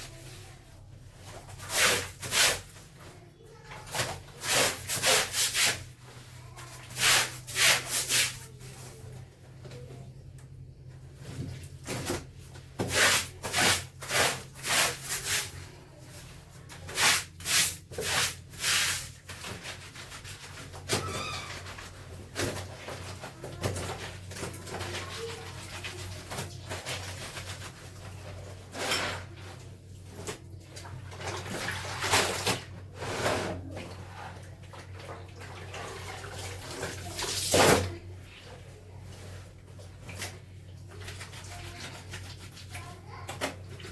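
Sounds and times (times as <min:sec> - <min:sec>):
wet clothes scrubbed by hand: 0:01.3 - 0:03.0, 0:03.8 - 0:09.1, 0:11.5 - 0:43.9.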